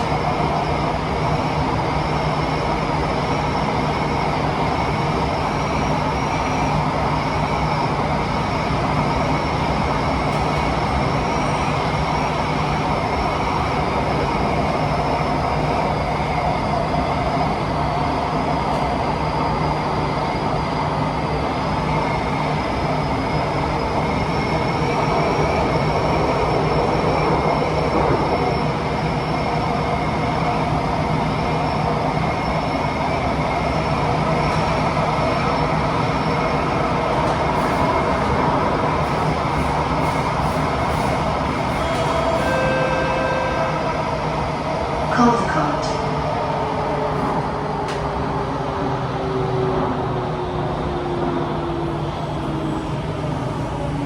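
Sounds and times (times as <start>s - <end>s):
train wind rush and wheel rumble: 0.0s - 54.0s.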